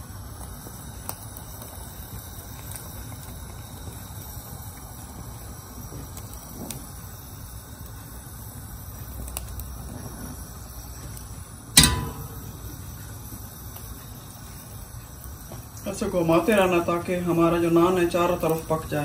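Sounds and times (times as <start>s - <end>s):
gas burner rushing: 0.0s - 19.0s.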